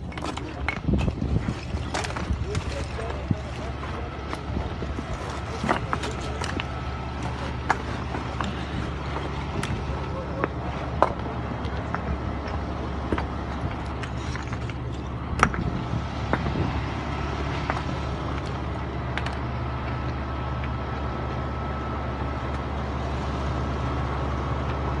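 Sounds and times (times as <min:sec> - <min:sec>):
vehicle engine idling hum: 0:00.0 - 0:25.0.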